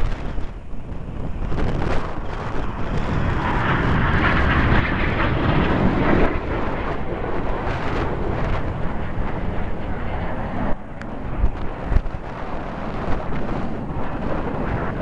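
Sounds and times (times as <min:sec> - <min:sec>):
jets flying over: 0:00.0 - 0:15.0.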